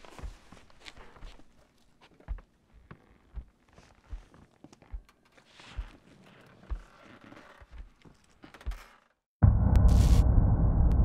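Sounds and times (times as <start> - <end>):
slow footsteps on indoor floor: 0.0 - 9.1.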